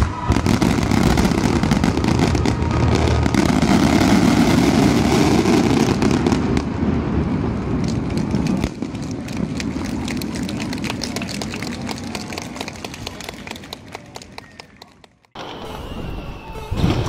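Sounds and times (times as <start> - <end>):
fireworks bursting and crackling: 0.0 - 13.9.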